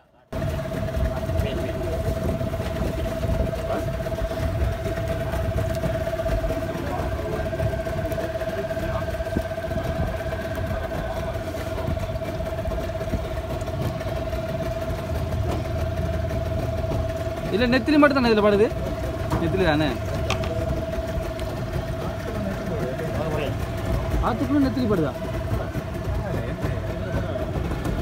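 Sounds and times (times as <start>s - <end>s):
motorboat engine idling: 0.1s - 28.0s.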